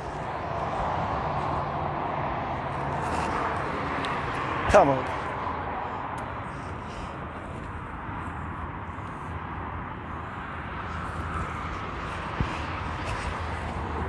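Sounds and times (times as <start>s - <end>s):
highway traffic passing: 0.0s - 14.0s.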